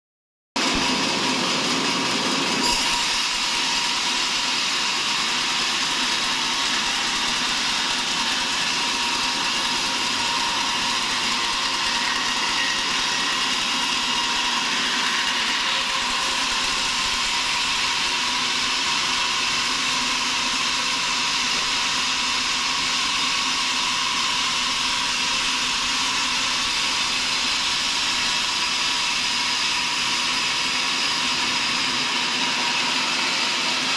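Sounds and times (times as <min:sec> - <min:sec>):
band saw cutting log: 0:00.6 - 0:33.9.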